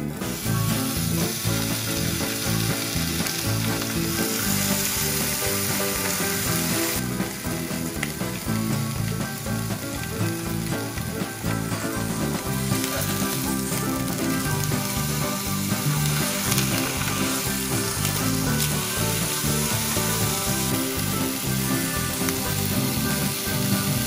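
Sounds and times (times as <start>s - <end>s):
music: 0.0s - 24.0s.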